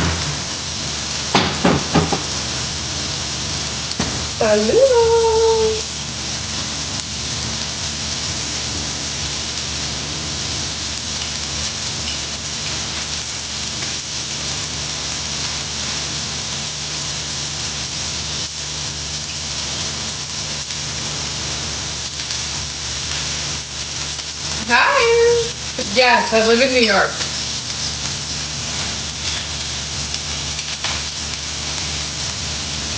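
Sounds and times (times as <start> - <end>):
food sizzling in a pan: 0.0 - 32.9.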